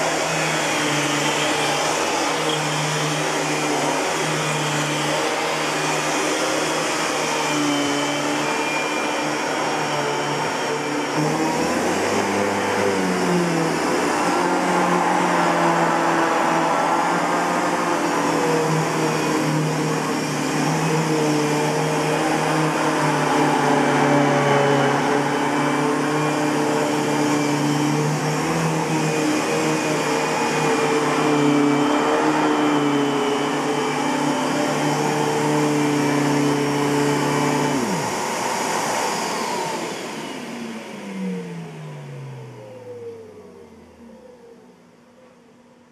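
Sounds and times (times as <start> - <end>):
motor winding down: 0.0 - 45.1
vacuum cleaner whine and hum: 0.0 - 45.9.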